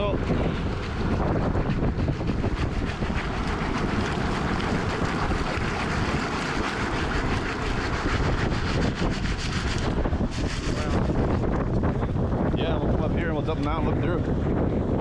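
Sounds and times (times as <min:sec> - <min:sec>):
surf: 0:00.0 - 0:14.2
wind buffeting microphone: 0:00.0 - 0:15.0.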